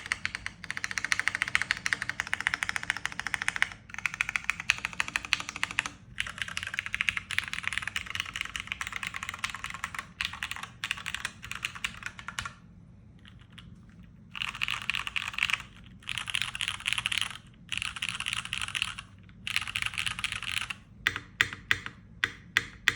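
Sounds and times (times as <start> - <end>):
fast typing on mechanical keyboard: 0.0 - 12.6, 14.3 - 22.9.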